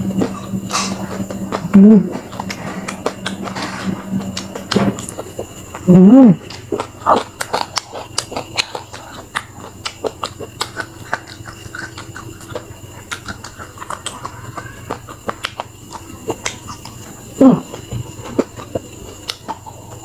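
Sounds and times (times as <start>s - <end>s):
chewing with mouth clicks: 0.0s - 20.0s.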